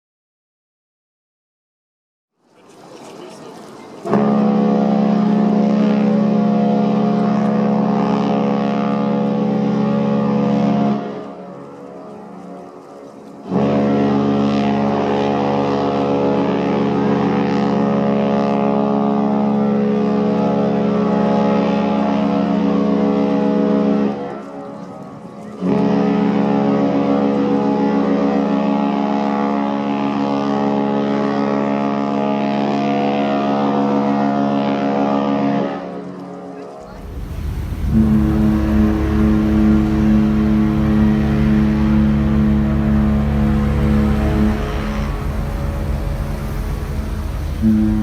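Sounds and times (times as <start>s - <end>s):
deep ship's horn blast: 4.0s - 48.0s.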